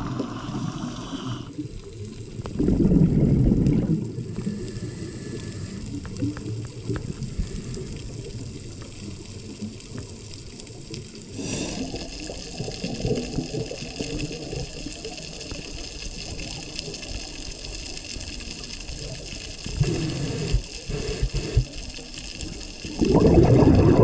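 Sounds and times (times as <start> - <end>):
bubbling: 0.0 - 24.0
underwater churning: 0.0 - 24.0.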